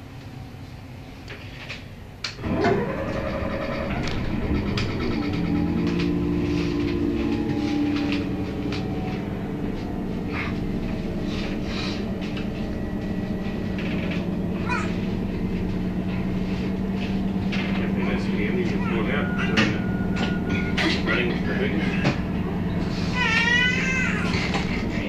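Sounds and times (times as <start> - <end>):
bus engine idling: 0.0 - 25.0.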